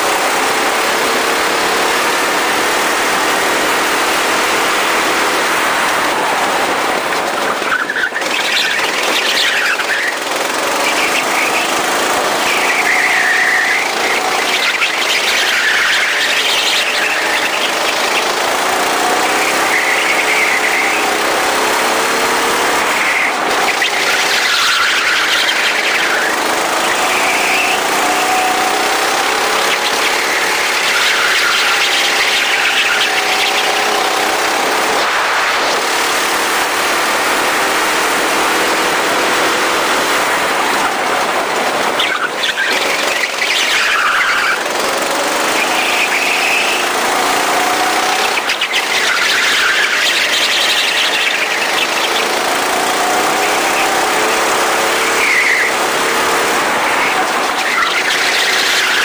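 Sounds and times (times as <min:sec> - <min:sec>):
go-kart engine revving: 0:00.0 - 0:59.0
high squealing: 0:03.0 - 0:59.0.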